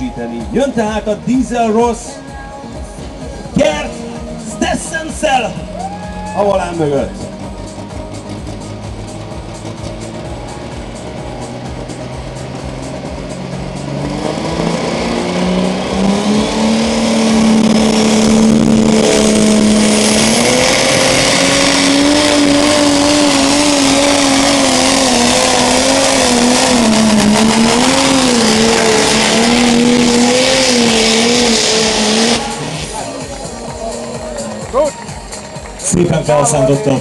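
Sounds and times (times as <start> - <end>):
tractor diesel engine revving: 0.0 - 37.0.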